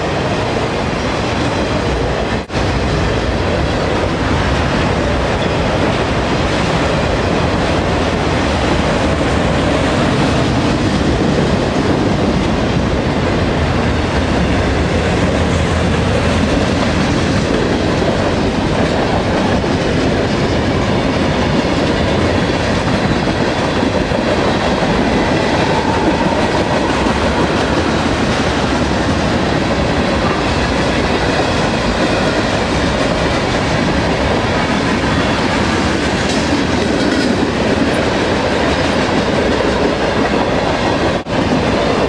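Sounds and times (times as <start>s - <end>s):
train wheels rolling on rails: 0.0s - 42.0s.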